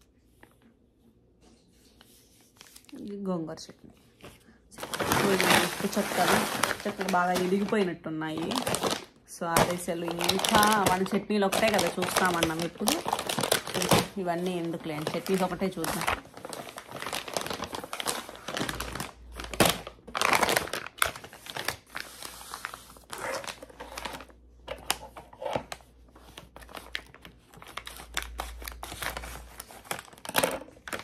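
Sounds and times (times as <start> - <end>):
plastic bags crinkling: 4.7 - 31.0.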